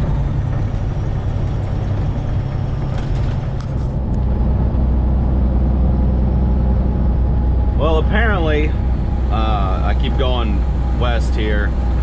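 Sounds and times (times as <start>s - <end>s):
truck engine drone in cab: 0.0s - 12.0s.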